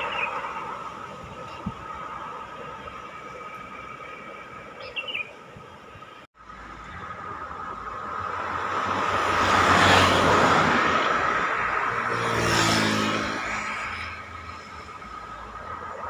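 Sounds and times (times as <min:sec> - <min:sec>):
tyre and road noise: 0:00.0 - 0:16.0
vehicles passing by: 0:00.0 - 0:16.0.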